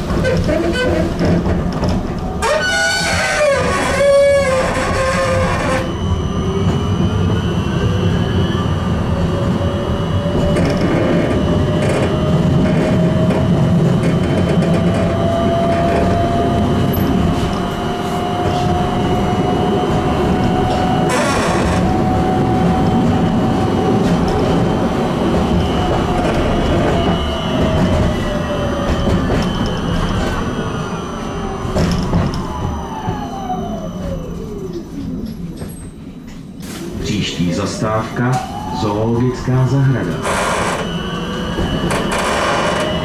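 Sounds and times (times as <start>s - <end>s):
tram rumbling: 0.0s - 43.0s.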